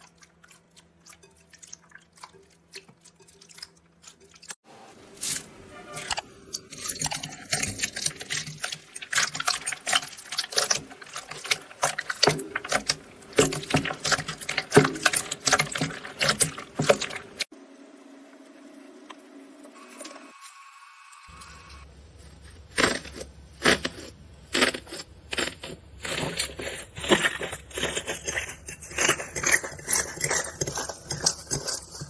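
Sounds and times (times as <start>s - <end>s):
brittle material crackling and crunching: 0.0s - 17.5s, 21.4s - 32.0s.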